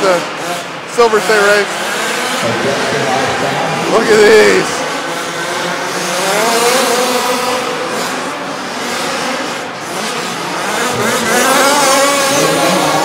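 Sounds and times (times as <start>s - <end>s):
small two-stroke engines revving: 0.0s - 13.0s.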